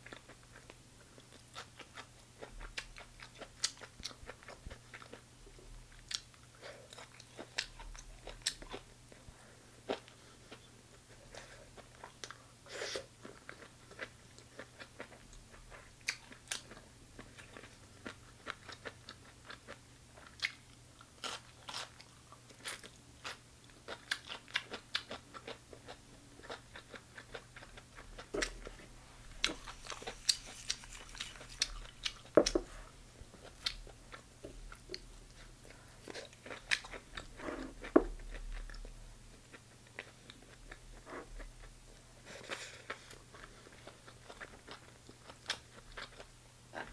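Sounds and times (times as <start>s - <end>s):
chewing crunchy food: 0.0s - 12.5s, 13.1s - 46.9s
faint steady hum: 0.0s - 46.9s.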